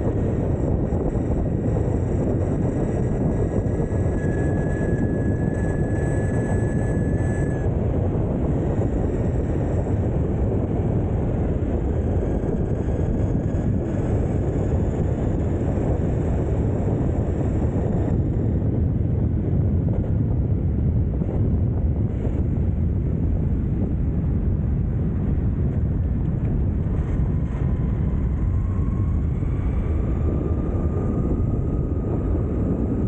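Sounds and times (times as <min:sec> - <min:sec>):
faint high whine: 0:00.0 - 0:20.3, 0:26.7 - 0:33.0
wind buffeting microphone: 0:00.0 - 0:33.0.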